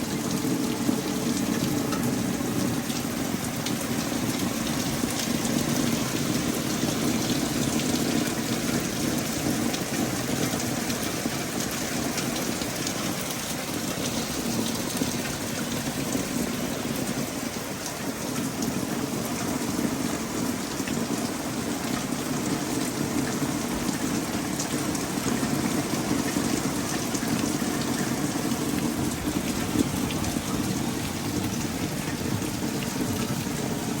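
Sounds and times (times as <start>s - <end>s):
rain hissing: 0.0s - 34.0s
raindrops ticking on surfaces: 0.0s - 34.0s.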